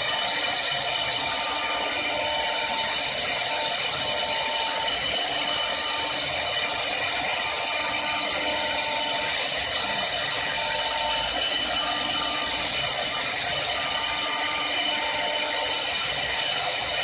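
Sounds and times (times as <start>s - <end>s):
lathe cutting wood with high whine: 0.0s - 17.0s.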